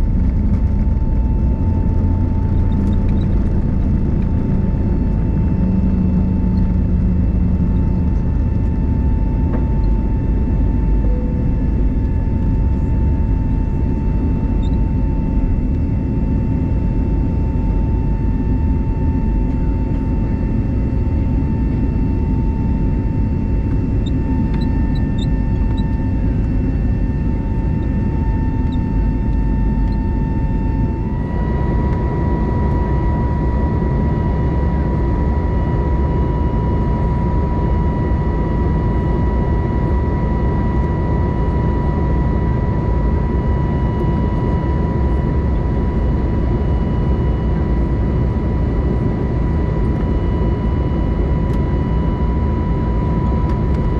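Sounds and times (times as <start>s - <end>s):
jet engine rumble and whine in cabin: 0.0s - 53.9s.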